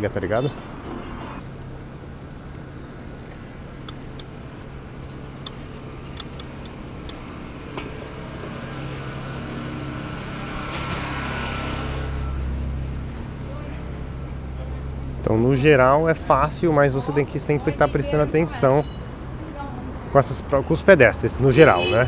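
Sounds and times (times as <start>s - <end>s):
hum of vehicle engines: 0.0s - 22.0s
vehicle passing close: 0.7s - 21.8s.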